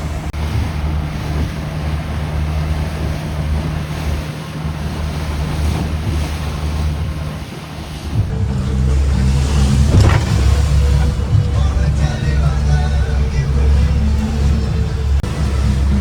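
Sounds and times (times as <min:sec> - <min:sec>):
boat engine running: 0:00.0 - 0:16.0
water and waves rushing: 0:00.0 - 0:16.0
wind buffeting microphone: 0:00.0 - 0:16.0.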